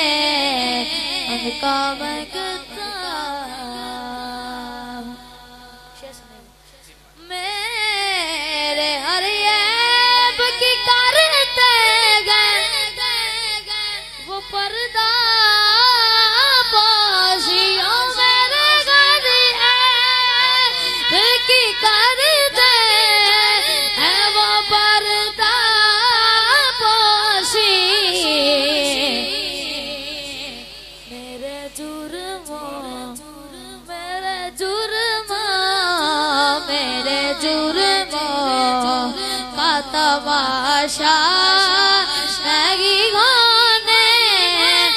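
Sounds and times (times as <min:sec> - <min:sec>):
boy singing solo: 0:07.2 - 0:44.9.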